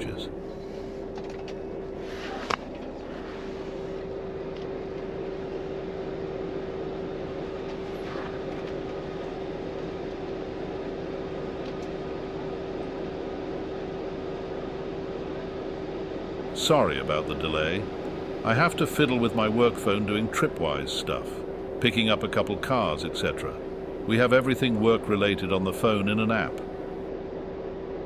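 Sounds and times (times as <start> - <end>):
truck engine hum inside cab: 0.0 - 28.0.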